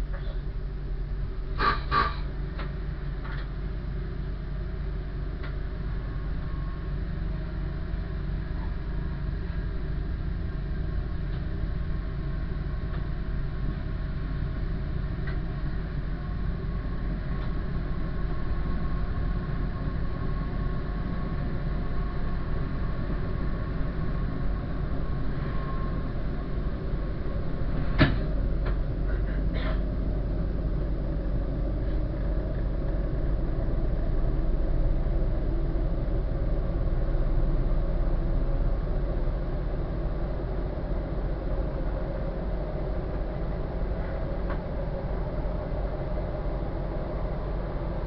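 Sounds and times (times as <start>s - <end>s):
diesel train engine drone: 0.0s - 48.0s
faint whine: 0.0s - 48.0s.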